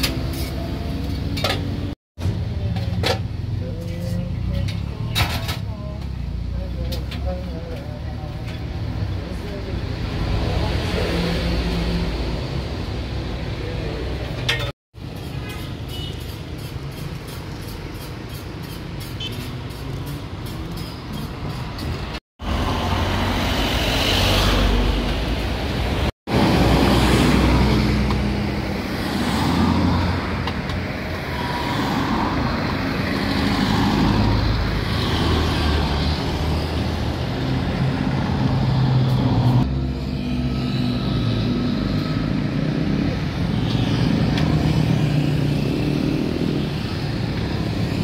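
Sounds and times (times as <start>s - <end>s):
passing road traffic: 0.0s - 48.0s.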